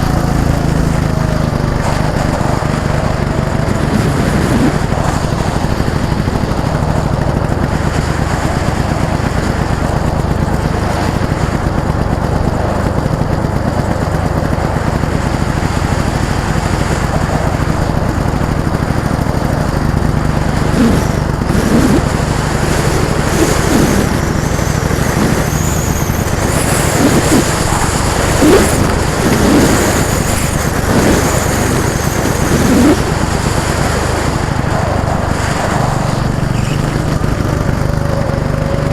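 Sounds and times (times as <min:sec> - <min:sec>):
go-kart engines running: 0:00.0 - 0:38.9
go-karts passing by: 0:00.0 - 0:38.9.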